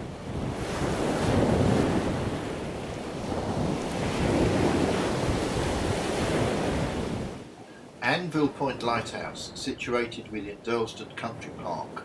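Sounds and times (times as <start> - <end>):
sea surf: 0.0 - 12.0
wind: 0.0 - 12.0.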